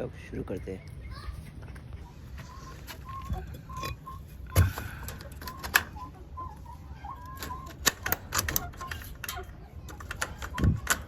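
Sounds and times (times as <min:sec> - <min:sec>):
chickens calling: 0:00.1 - 0:11.0.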